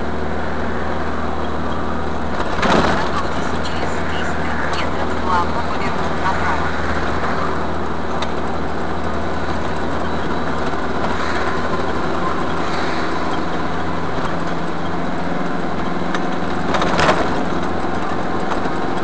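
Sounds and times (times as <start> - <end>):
road noise inside cab: 0.0 - 19.0
truck engine running: 0.0 - 19.0.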